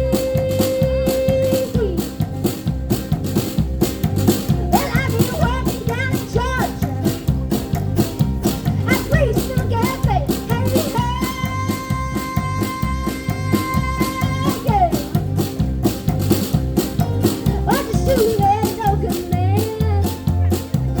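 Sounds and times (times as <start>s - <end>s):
country band playing: 0.0s - 21.0s.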